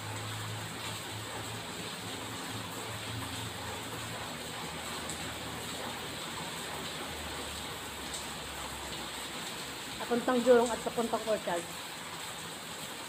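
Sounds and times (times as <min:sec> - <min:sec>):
street traffic noise: 0:00.0 - 0:12.8.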